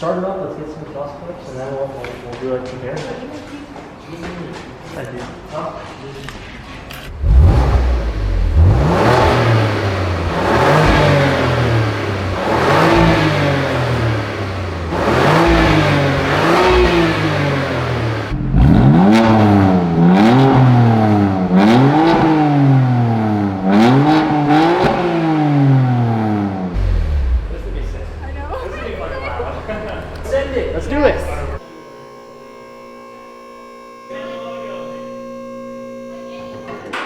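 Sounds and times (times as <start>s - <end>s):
car engine revving: 7.0s - 36.9s.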